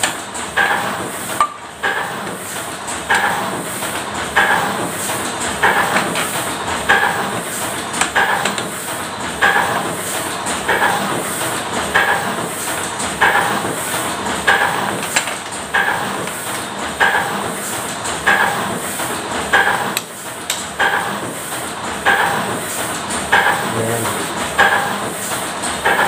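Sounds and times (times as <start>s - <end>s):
machinery hissing and clattering: 0.0s - 26.0s.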